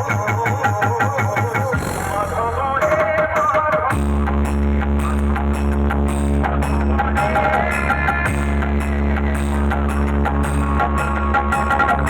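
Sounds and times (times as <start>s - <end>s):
dance music with heavy bass: 0.0s - 12.0s.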